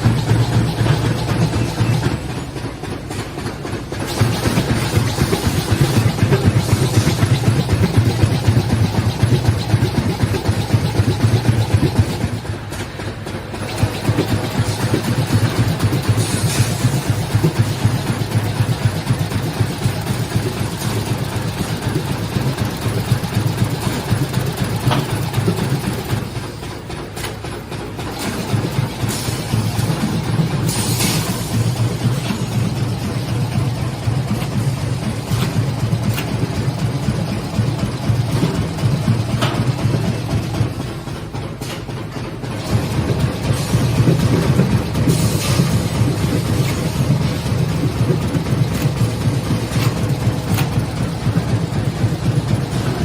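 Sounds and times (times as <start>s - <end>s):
machine clattering: 0.0s - 53.0s.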